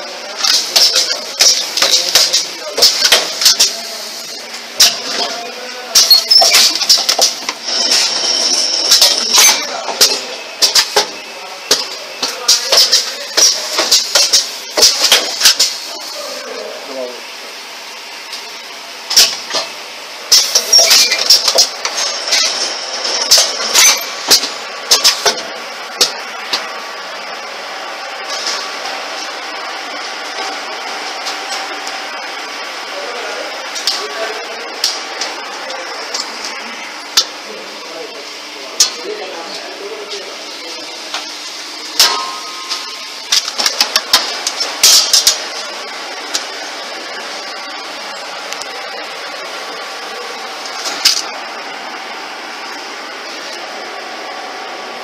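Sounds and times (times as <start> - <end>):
steady machine noise: 0.0 - 55.0.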